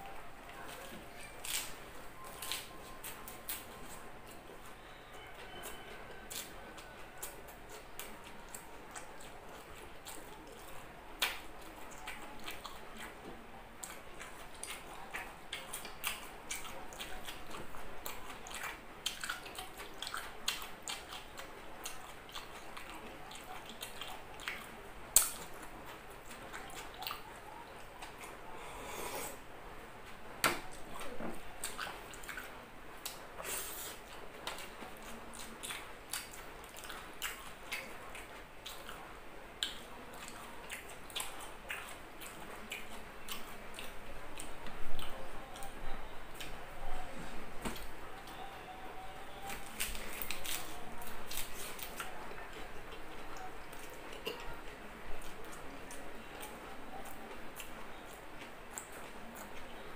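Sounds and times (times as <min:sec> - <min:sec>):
person chewing with wet mouth sounds: 0:00.0 - 0:29.4, 0:30.6 - 0:59.9.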